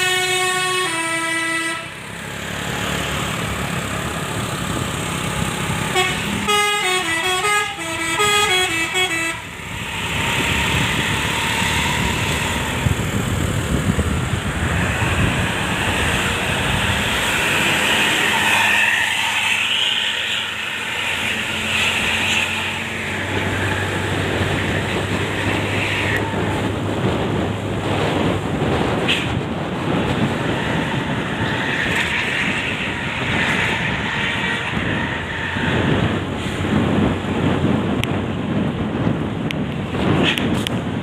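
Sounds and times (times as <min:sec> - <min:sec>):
diesel engine hum: 0:00.0 - 0:41.0
road and wind noise: 0:00.0 - 0:41.0.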